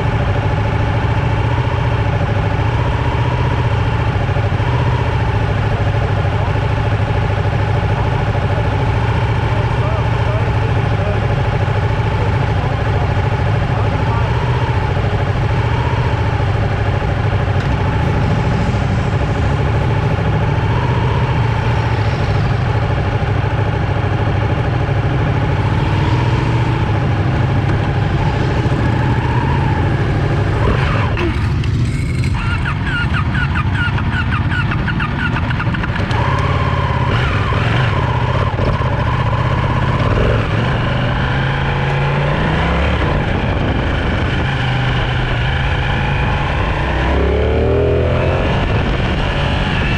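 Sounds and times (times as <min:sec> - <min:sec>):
motorcycle engine running hard: 0:00.0 - 0:49.9.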